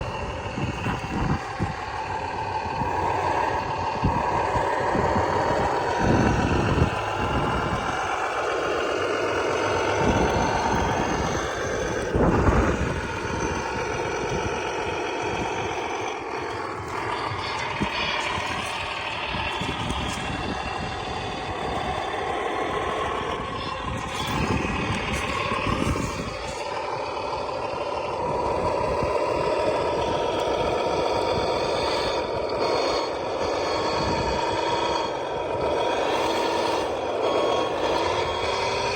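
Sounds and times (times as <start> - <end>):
toy truck electric motor whining: 0.0 - 38.9.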